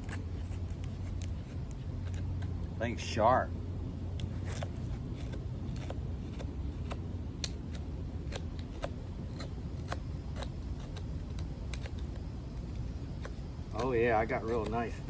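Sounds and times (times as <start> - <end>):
knife blade scraping wood: 0.0 - 2.8, 4.2 - 15.0
steady low rumble: 0.0 - 15.0.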